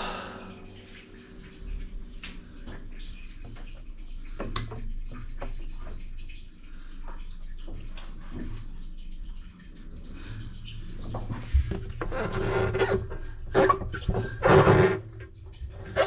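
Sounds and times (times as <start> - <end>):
faint water: 0.0 - 16.0.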